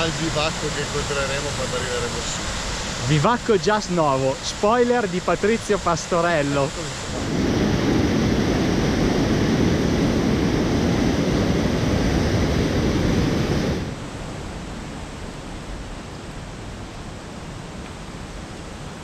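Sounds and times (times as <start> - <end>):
mountain torrent rushing: 0.0 - 19.0.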